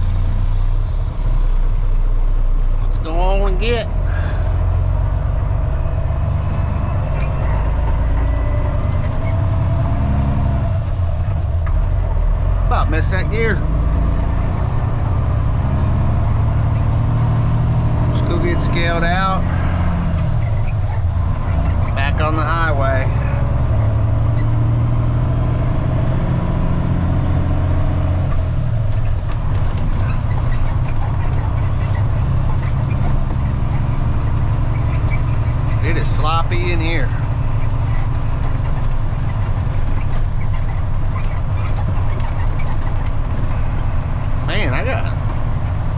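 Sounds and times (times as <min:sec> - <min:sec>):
truck diesel engine rumbling: 0:00.0 - 0:45.9.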